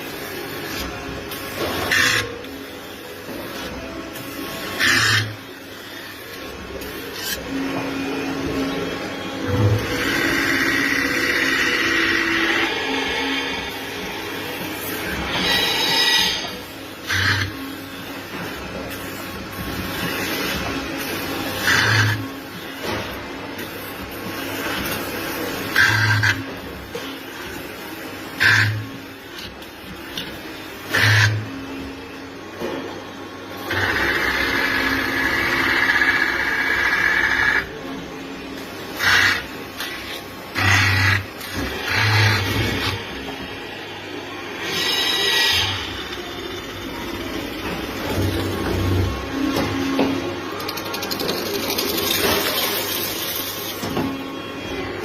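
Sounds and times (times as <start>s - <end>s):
factory machinery humming: 0.0s - 55.0s.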